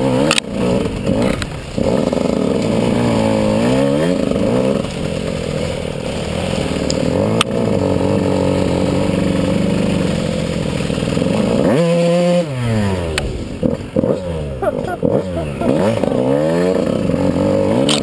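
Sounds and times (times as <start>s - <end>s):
dirt bike engine at low revs: 0.0s - 18.0s.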